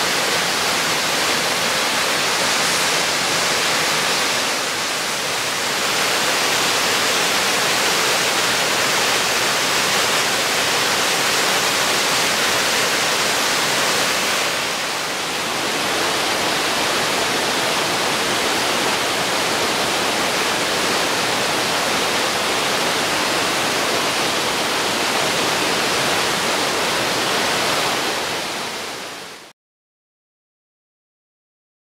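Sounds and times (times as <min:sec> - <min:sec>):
waterfall rushing: 0:00.0 - 0:29.5.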